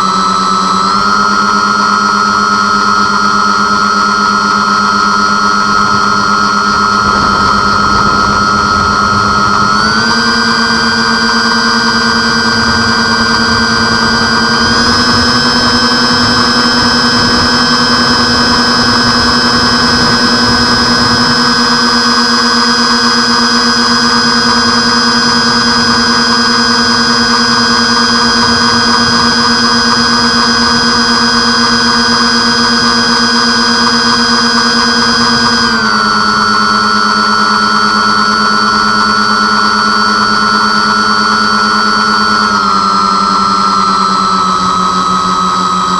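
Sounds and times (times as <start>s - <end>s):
rc airplane motors whining: 0.0s - 45.9s.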